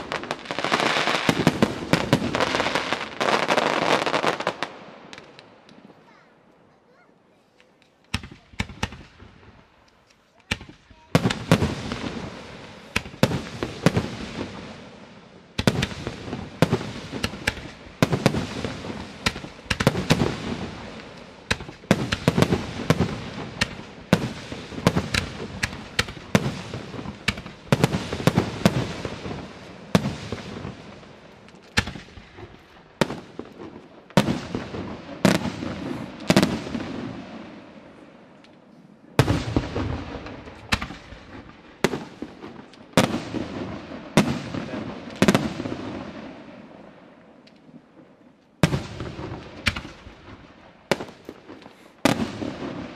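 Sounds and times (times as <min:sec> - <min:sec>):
fireworks bangs and crackling: 0:00.0 - 0:06.5, 0:07.3 - 0:52.9.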